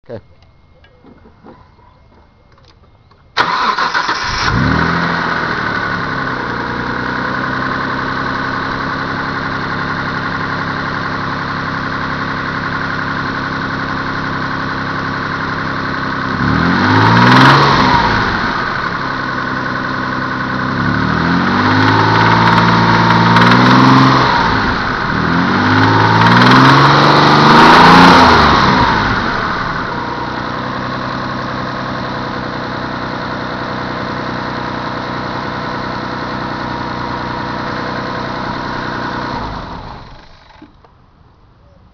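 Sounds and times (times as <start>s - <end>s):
car engine idling and revving: 3.4s - 41.2s.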